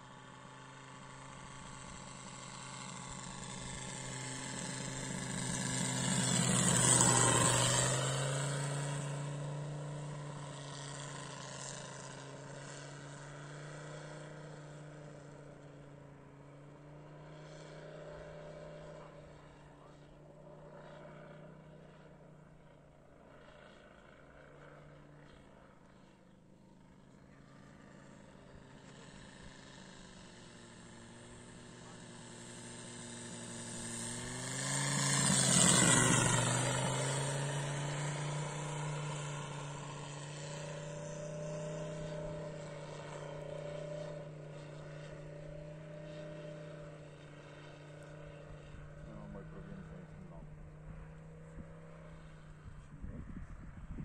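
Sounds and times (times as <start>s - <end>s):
model plane radial engine: 0.0s - 54.0s.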